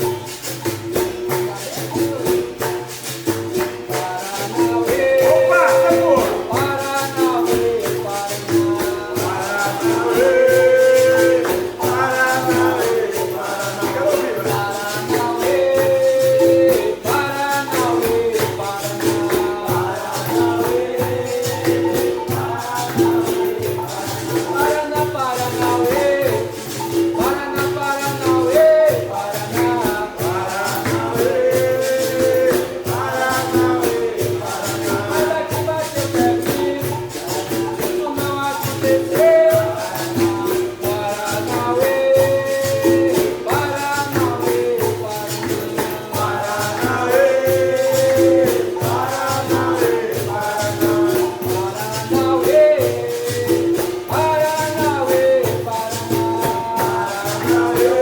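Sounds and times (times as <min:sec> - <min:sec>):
berimbau rhythm: 0:00.0 - 0:58.0
shaker: 0:00.0 - 0:58.0
tambourine jingles: 0:00.0 - 0:58.0
person singing: 0:03.9 - 0:58.0.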